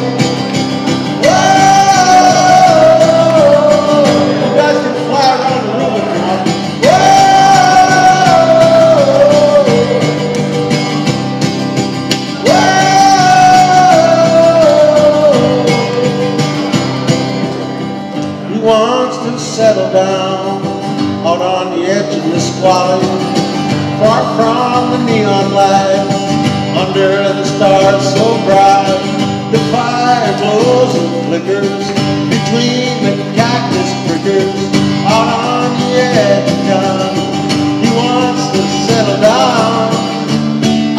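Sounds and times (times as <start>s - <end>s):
man singing: 0.0s - 11.1s, 12.3s - 16.9s, 18.4s - 40.4s
acoustic guitar strumming: 0.0s - 40.9s.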